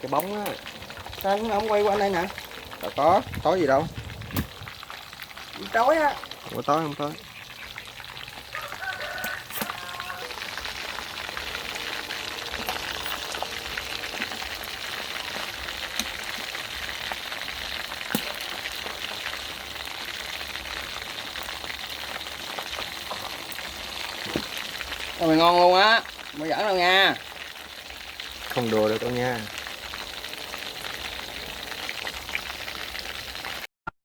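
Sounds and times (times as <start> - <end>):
fish deep-frying in oil: 0.0 - 33.7
oil crackles and pops: 0.0 - 33.7.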